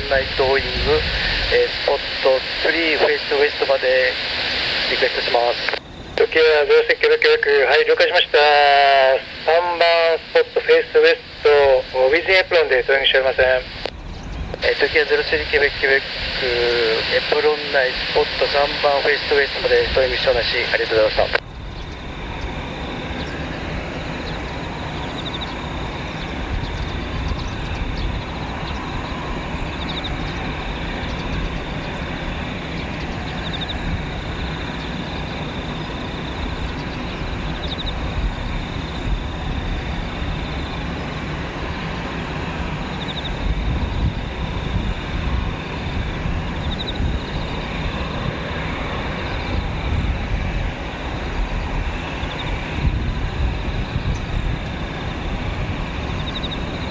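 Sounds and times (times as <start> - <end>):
jet engines rumbling and hissing: 0.0 - 56.9.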